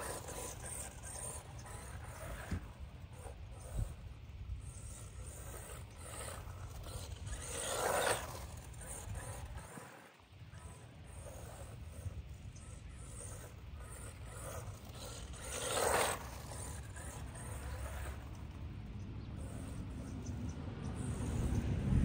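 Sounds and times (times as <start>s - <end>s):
rc truck motor whirring: 0.0s - 22.0s.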